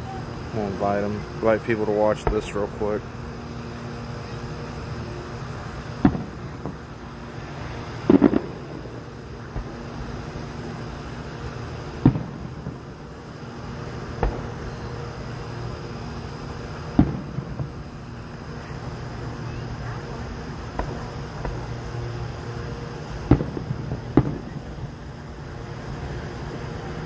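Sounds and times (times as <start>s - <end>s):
crickets chirping: 0.0s - 27.0s
distant fireworks booming: 0.0s - 27.0s.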